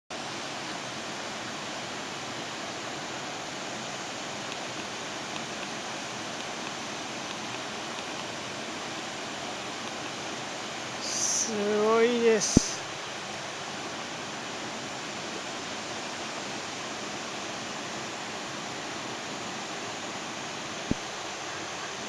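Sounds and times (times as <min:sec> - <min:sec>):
waterfall rushing: 0:00.2 - 0:22.0.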